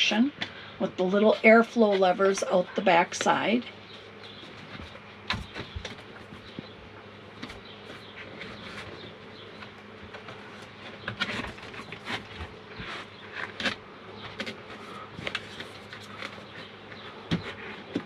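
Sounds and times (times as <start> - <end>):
steady buzzing hum: 0.0 - 18.0.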